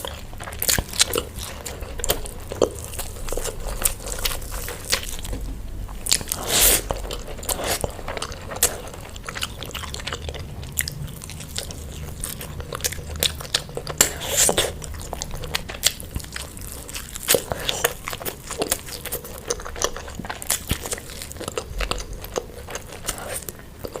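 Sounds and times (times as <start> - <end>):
crunchy bites and chewing: 0.0 - 24.0.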